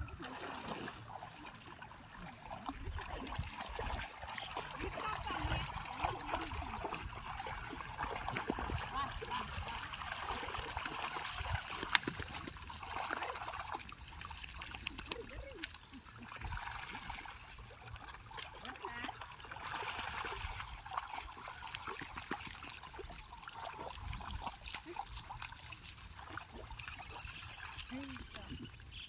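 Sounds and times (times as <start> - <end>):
water trickling and splashing: 0.0 - 29.0.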